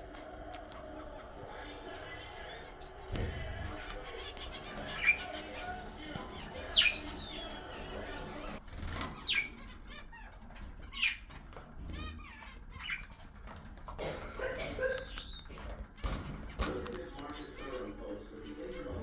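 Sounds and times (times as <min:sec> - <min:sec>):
parrots squawking: 0:00.0 - 0:13.6, 0:14.4 - 0:19.0.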